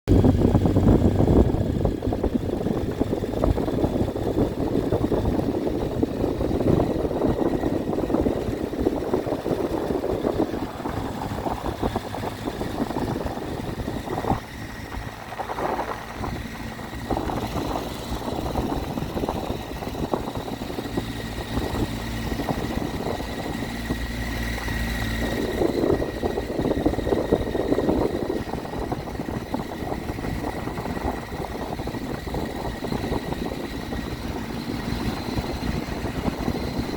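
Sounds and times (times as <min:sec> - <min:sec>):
motorcycle engine hum: 0:00.1 - 0:36.9.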